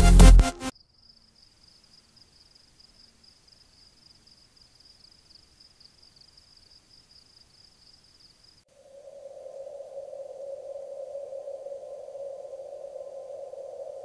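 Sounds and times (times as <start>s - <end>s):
low hiss: 1.1s - 14.0s.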